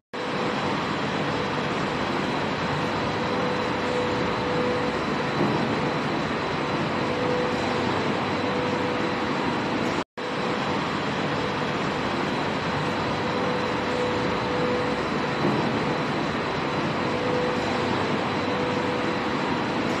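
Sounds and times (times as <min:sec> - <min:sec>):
factory machinery din: 0:00.2 - 0:20.0.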